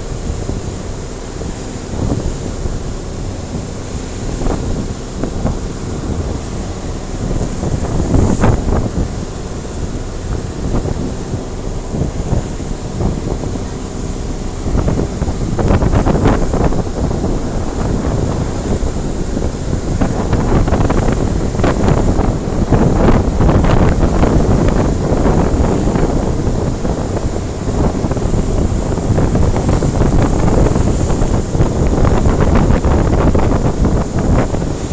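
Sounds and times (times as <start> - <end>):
water splashing around hull: 0.0 - 34.9
wind buffeting microphone: 0.0 - 34.9.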